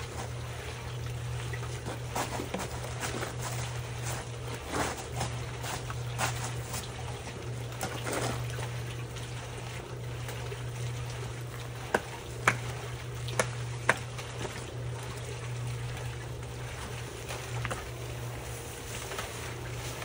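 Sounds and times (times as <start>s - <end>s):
steady low hum: 0.0s - 20.0s
wet concrete sloshing and scraping: 0.0s - 20.0s.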